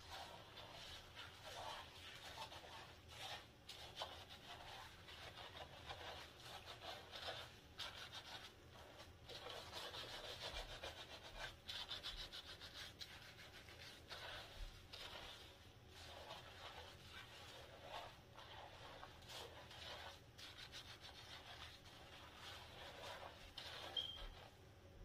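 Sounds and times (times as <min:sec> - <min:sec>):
hands rubbing lathered hair: 0:00.0 - 0:24.6.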